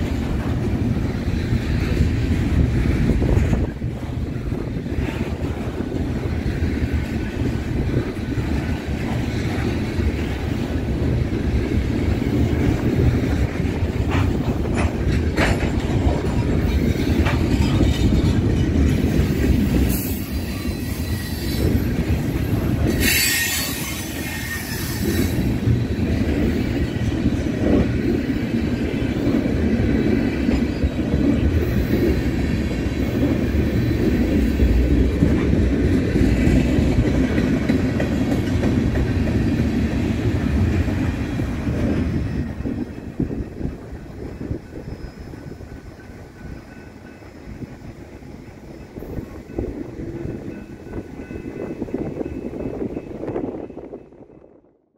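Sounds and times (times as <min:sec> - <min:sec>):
wheel clatter over rail joints: 0:00.0 - 0:47.0
wheels squealing on rails: 0:00.0 - 0:54.0
freight train rumbling past: 0:00.0 - 0:54.8.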